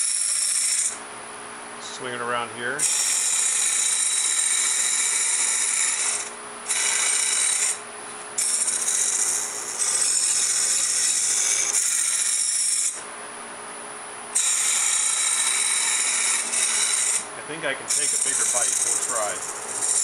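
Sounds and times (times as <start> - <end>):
lathe cutter rasping hiss: 0.0 - 1.0, 2.8 - 7.8, 8.4 - 13.0, 14.4 - 20.0
lathe humming: 0.0 - 1.0, 2.8 - 7.8, 8.4 - 13.0, 14.4 - 20.0.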